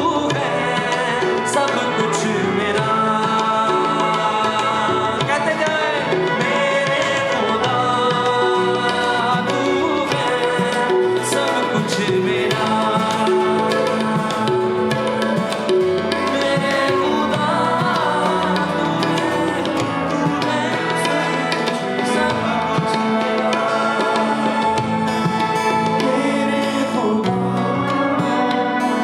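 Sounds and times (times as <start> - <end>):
band playing held melodic notes: 0.0 - 29.0
hand drum rhythm: 0.0 - 29.0.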